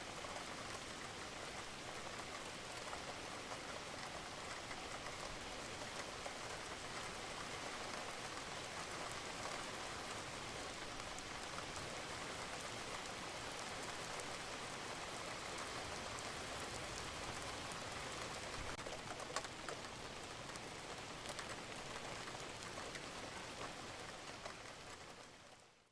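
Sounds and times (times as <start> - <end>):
steady rain hiss: 0.0 - 25.9.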